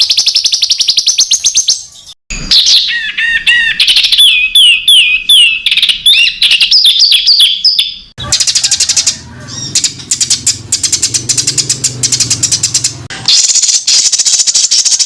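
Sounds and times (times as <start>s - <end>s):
songbird singing fast trills: 0.0s - 15.0s.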